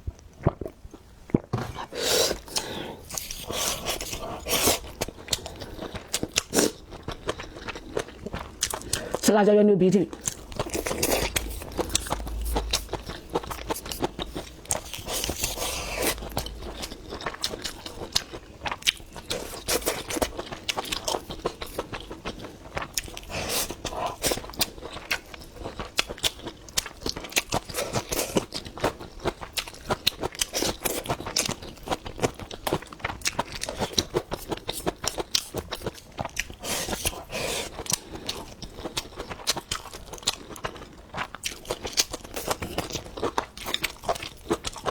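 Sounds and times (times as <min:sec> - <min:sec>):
person chewing and crunching food: 0:00.0 - 0:09.3, 0:10.1 - 0:44.9.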